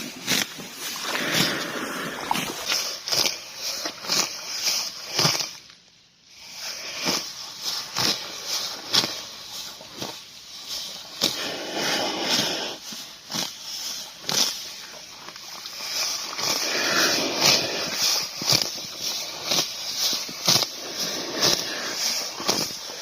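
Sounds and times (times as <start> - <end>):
grass torn and chewed: 0.0 - 5.8, 6.7 - 23.0.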